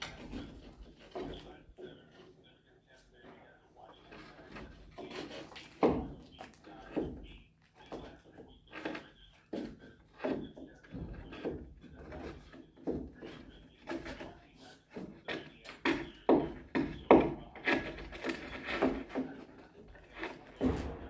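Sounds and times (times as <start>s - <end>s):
wooden knocks and clunks: 0.0s - 2.3s, 4.0s - 21.0s.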